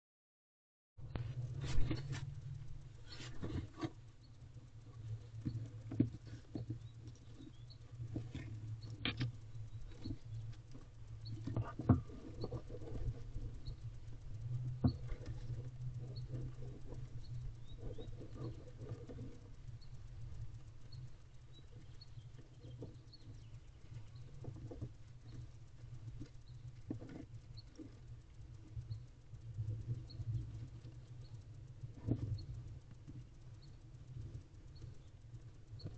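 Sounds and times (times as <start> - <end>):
steady low hum: 1.0 - 35.9
owl scratching and rustling: 1.1 - 35.9.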